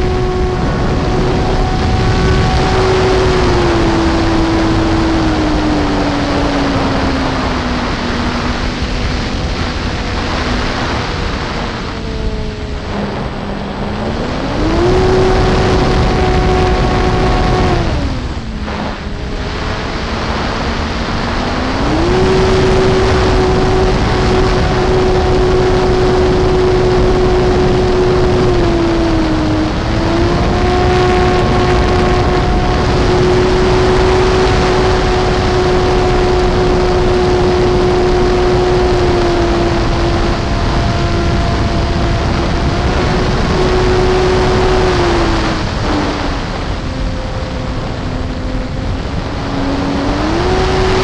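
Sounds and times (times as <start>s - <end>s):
electric motor and propeller whine: 0.0s - 51.0s
rushing air noise: 0.0s - 51.0s.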